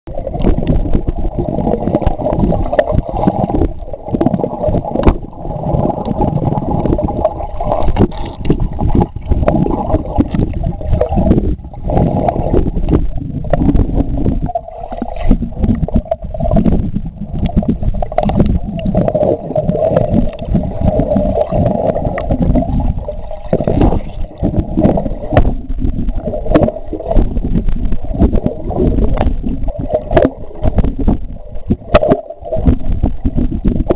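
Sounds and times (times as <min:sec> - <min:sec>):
muffled underwater rush and bubbling: 0:00.0 - 0:33.9.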